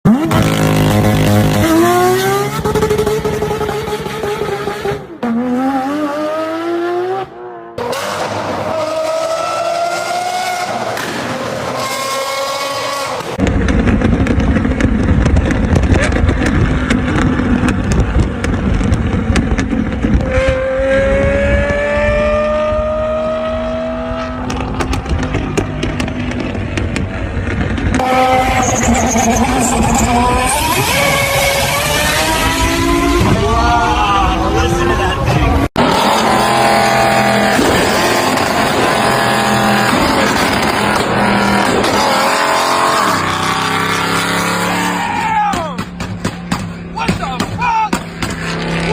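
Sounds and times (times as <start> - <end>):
car engine accelerating hard: 0.1 - 45.2.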